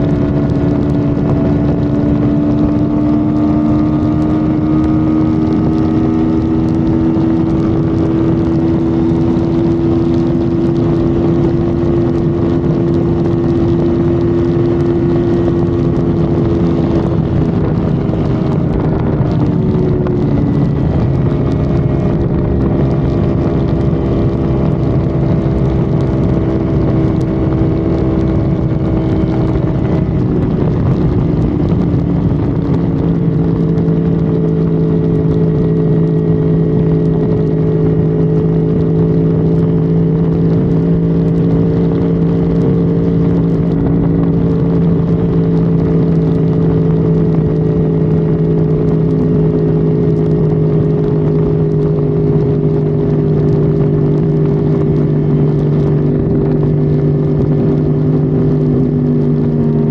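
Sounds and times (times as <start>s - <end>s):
car engine running hard: 0.0s - 59.9s
road and wind noise: 0.0s - 59.9s.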